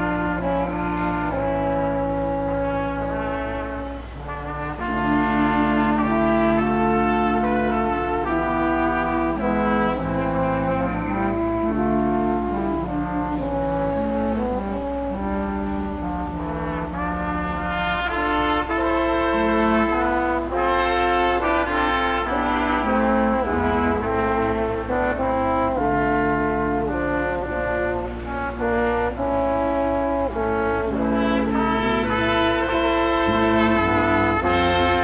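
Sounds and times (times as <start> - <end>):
brass ensemble playing chords: 0.0 - 35.0.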